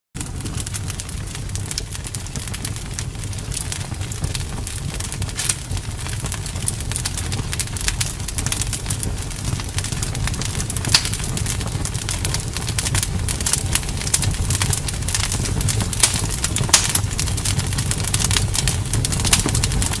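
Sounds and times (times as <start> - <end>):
campfire crackling and popping: 0.2 - 20.0
low fire rumble: 0.2 - 20.0.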